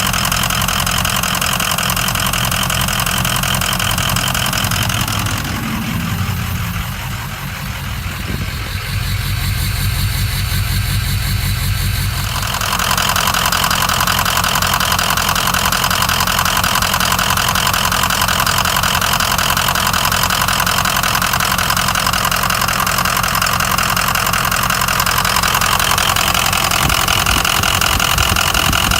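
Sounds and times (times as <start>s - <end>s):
diesel engine rough idle: 0.0s - 28.9s.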